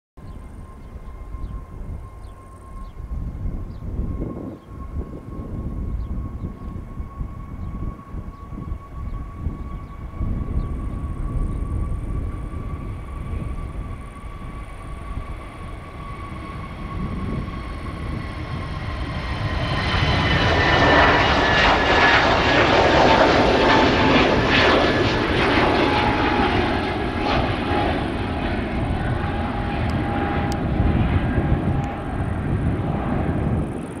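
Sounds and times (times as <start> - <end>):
jet engines roaring with whine: 0.2 - 34.0.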